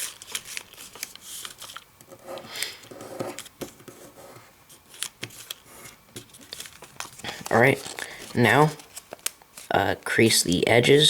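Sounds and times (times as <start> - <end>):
paper rustling and creasing: 0.0 - 10.3.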